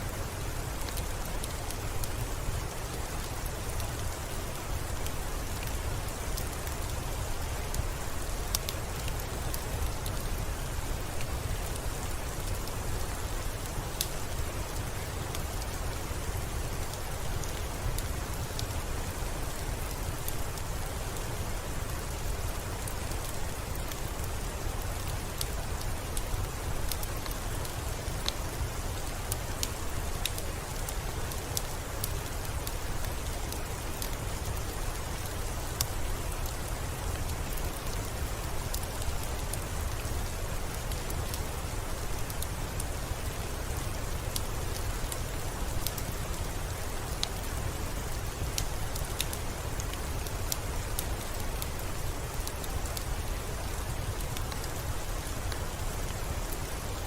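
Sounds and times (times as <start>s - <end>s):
soft steady rain: 0.0s - 57.0s.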